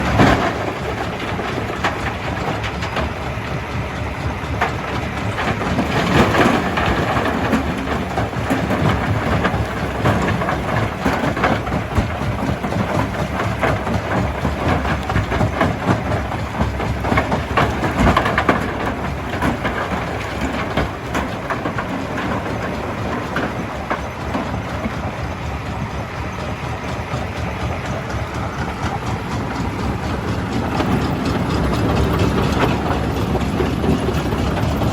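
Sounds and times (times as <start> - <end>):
crusher machine rumbling: 0.0 - 34.9.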